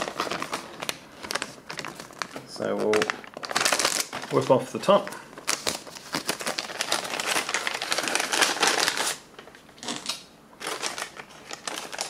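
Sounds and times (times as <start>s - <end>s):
heater bag crinkling: 0.0s - 12.0s.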